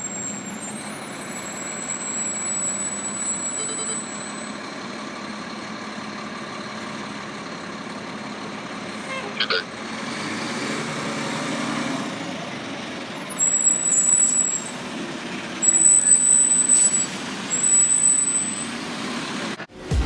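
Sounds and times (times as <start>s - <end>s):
fire engine and road noise: 0.0s - 20.0s.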